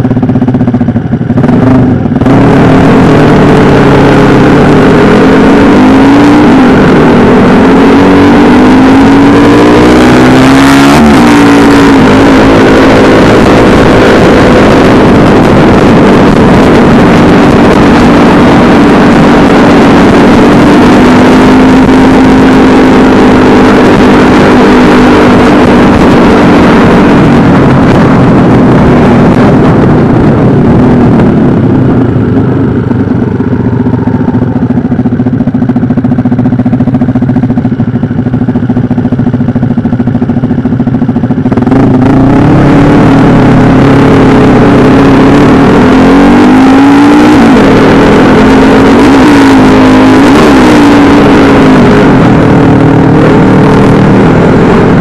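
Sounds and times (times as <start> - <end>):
small engine running and revving: 0.0 - 55.0.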